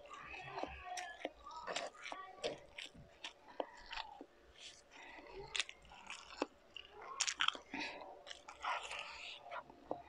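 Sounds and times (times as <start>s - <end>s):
person biting and chewing: 1.2s - 9.6s.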